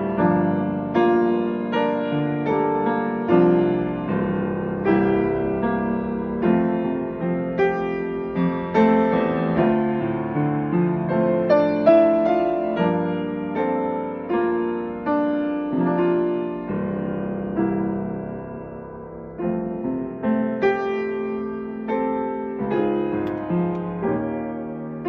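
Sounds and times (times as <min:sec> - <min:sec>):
solo piano hymn accompaniment: 0:00.0 - 0:25.0.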